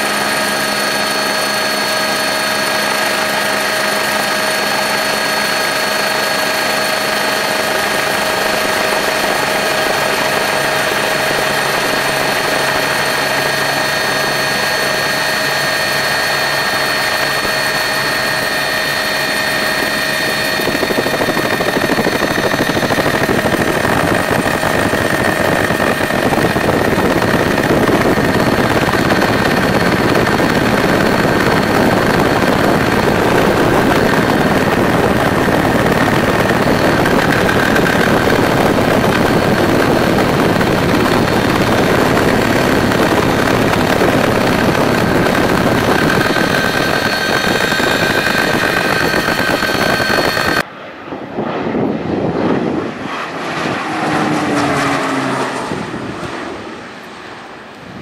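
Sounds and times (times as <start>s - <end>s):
aircraft cabin engine drone: 0.0s - 58.0s
rushing noise: 7.1s - 58.0s.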